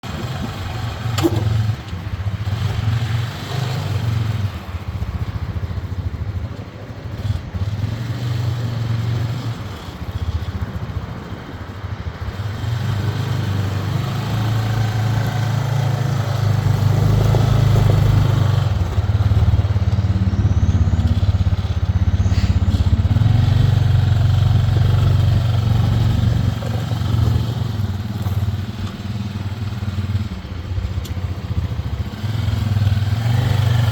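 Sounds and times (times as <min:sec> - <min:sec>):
atv engine running: 0:00.0 - 0:33.9.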